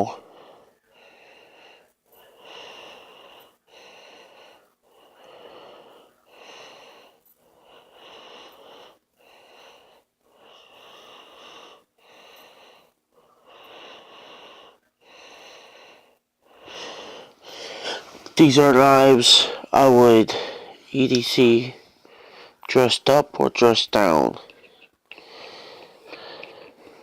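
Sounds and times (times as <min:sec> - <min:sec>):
person breathing: 0:00.0 - 0:22.7, 0:24.4 - 0:27.0.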